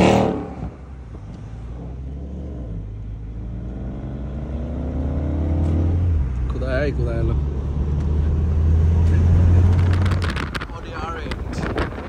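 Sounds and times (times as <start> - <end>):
vehicle engine revving: 0.0 - 10.6.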